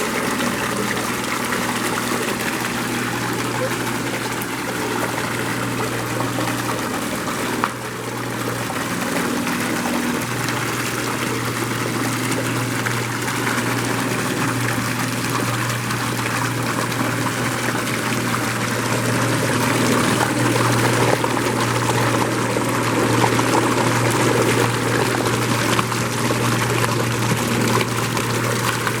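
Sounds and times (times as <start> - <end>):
low motor hum: 0.0 - 29.0
water pouring and splashing: 0.0 - 29.0.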